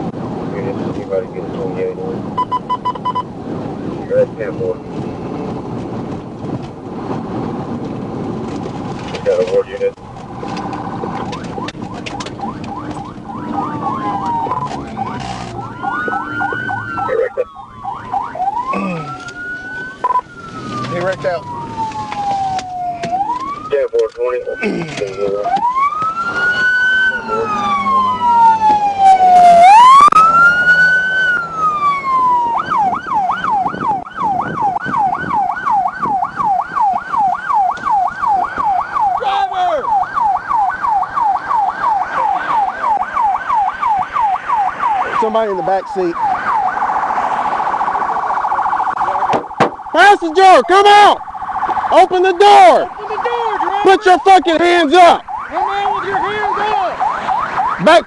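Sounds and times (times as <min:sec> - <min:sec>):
engine and road rumble: 0:00.0 - 0:58.0
police siren wailing: 0:09.1 - 0:58.0
police siren yelping: 0:09.3 - 0:58.0.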